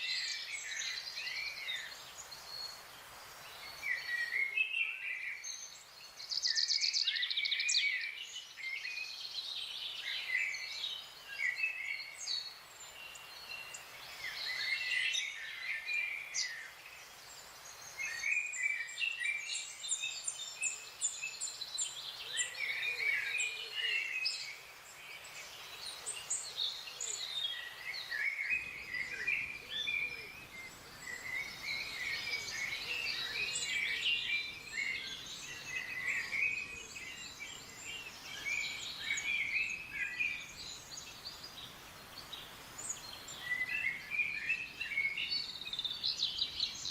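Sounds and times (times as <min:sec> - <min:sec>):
songbirds singing and calling: 0:00.0 - 0:46.9.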